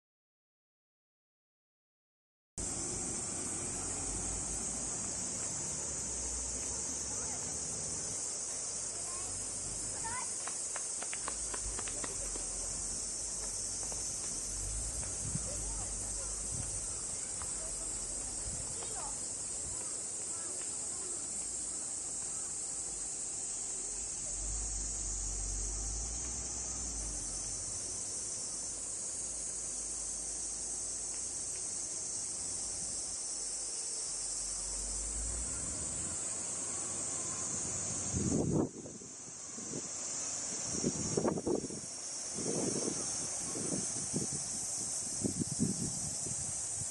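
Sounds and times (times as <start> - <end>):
high-pitched insect chorus: 2.6 - 46.9
insect chirps and clicks: 2.6 - 46.9.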